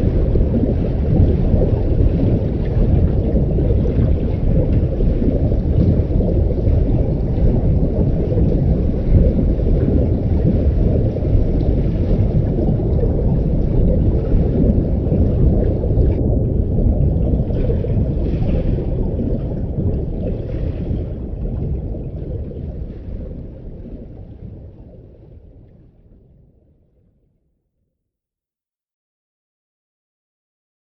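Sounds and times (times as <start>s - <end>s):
muffled underwater rumble: 0.0s - 27.5s.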